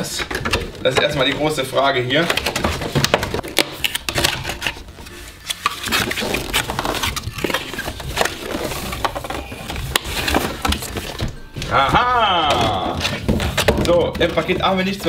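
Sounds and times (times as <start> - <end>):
cardboard packaging handled: 0.2 - 15.0.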